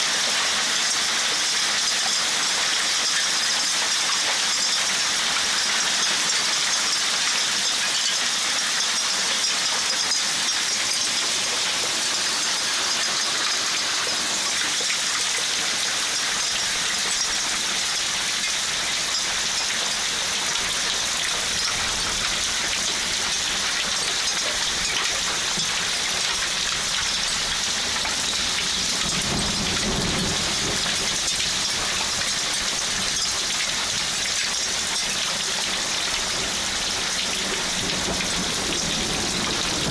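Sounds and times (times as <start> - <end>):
heavy rain and hail: 0.0 - 39.9.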